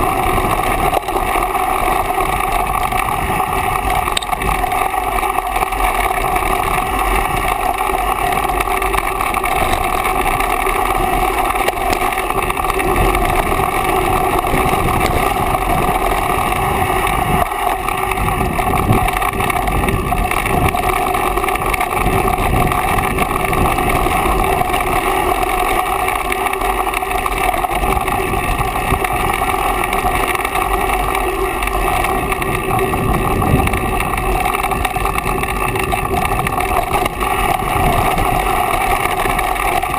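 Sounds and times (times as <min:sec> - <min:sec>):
bike knocks and rattles: 0:00.0 - 0:39.9
wind and tyre rush: 0:00.0 - 0:39.9.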